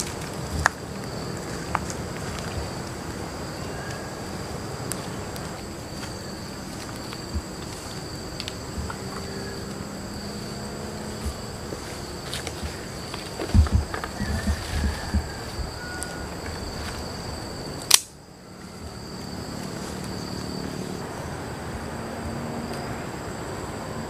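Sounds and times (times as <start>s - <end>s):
jungle insects droning: 0.0s - 24.0s.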